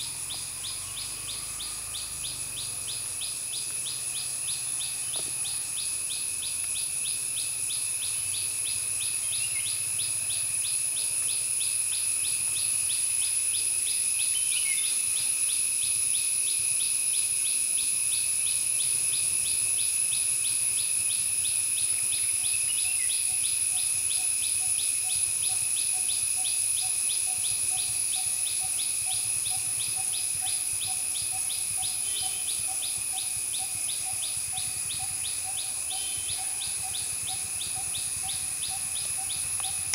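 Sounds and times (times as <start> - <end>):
insect chorus drone and trill: 0.0 - 39.9
lower pulsing insect call: 0.0 - 39.9.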